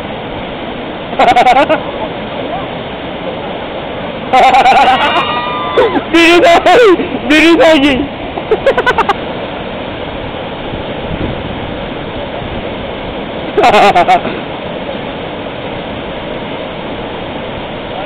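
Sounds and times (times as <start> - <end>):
river rapids rushing: 0.0 - 18.0.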